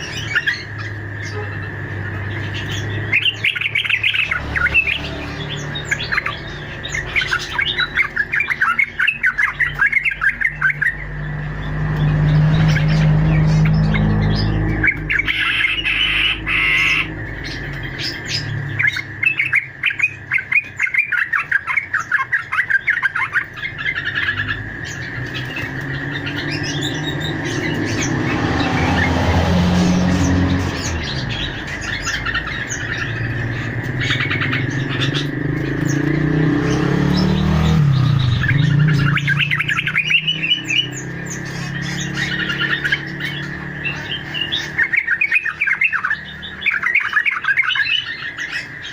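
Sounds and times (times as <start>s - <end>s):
wild birds chirping and squawking: 0.0s - 48.9s.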